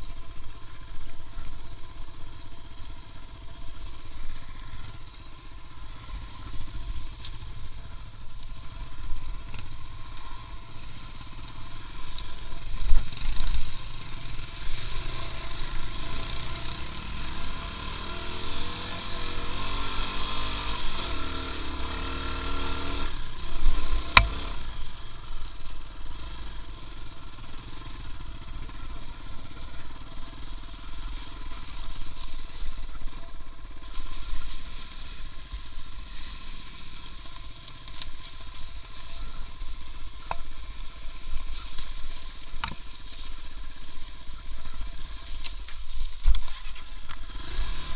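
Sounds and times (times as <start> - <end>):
vehicle engine rumbling: 0.0 - 47.9.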